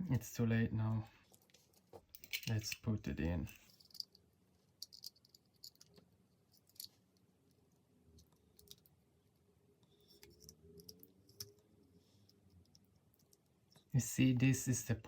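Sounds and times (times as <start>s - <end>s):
faint clicks and scrapes of parts: 1.1s - 14.6s.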